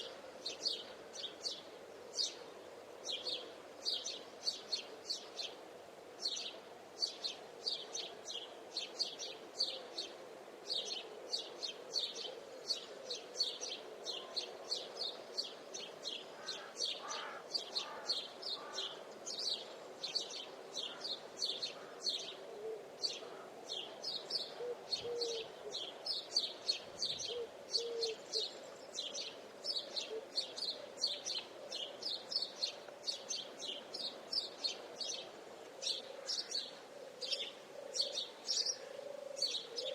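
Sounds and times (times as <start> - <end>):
lower birdsong: 0.0 - 39.9.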